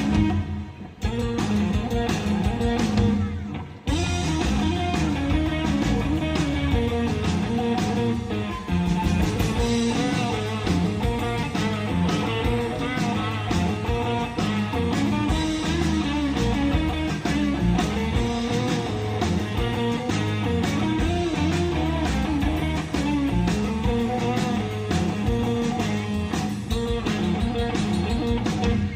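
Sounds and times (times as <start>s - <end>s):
bass guitar: 0.0s - 28.9s
drums keeping a beat: 0.0s - 28.9s
electric guitar lead: 0.0s - 28.9s.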